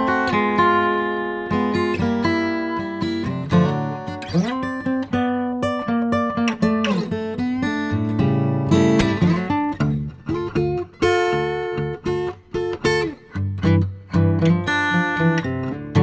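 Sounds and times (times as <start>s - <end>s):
guitar picking notes: 0.0s - 16.0s.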